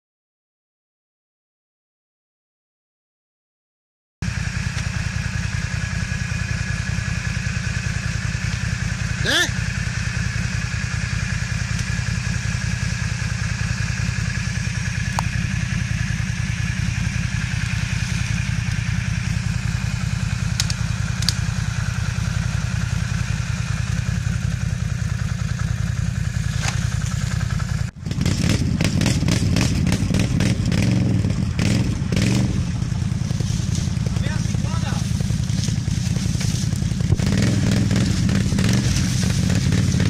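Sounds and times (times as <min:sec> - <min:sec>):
atv engine running: 0:04.2 - 0:40.0.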